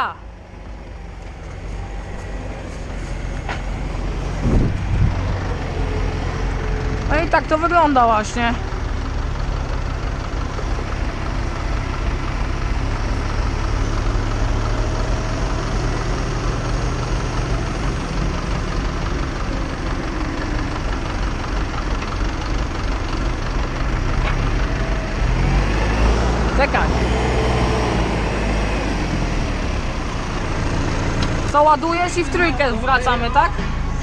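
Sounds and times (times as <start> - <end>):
tractor diesel engines running: 0.0 - 34.0.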